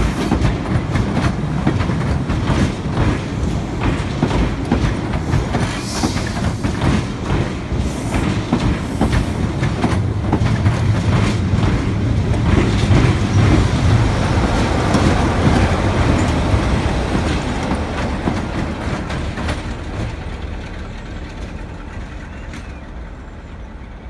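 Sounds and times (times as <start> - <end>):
diesel locomotive passing: 0.0 - 24.0
train wheels rumbling over rails: 0.0 - 24.0.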